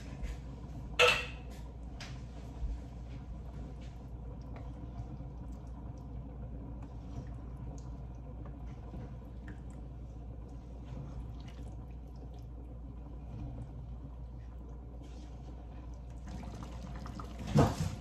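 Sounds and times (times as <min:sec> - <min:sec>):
soup simmering: 0:00.0 - 0:18.0.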